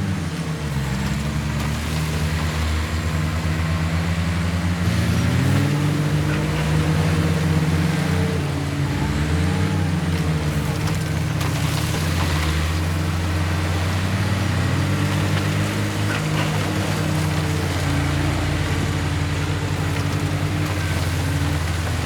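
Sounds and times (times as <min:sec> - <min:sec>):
heavy diesel machinery engines: 0:00.0 - 0:22.0.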